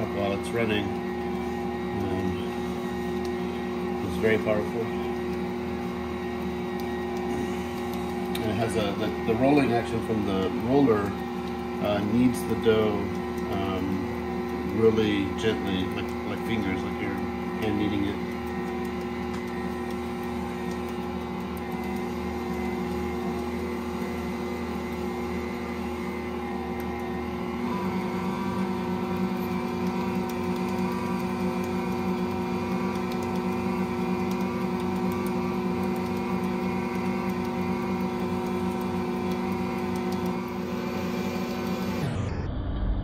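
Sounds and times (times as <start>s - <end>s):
electric stand mixer kneading dough: 0.0s - 42.5s.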